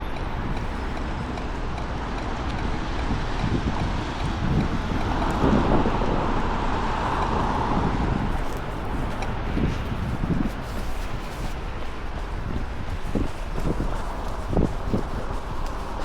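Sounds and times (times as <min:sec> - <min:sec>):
road traffic: 0:00.0 - 0:16.0
wind on microphone: 0:00.0 - 0:16.0.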